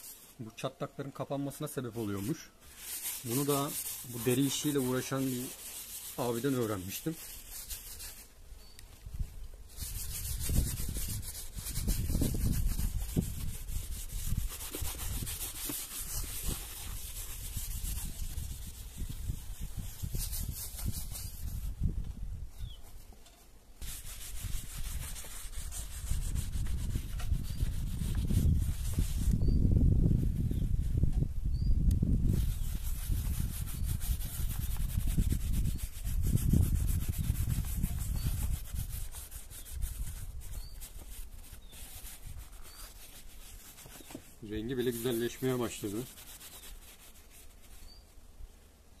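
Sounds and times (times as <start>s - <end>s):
scratchy rubbing on leather: 1.8s - 8.4s, 9.7s - 21.7s, 23.8s - 29.6s, 32.2s - 48.1s.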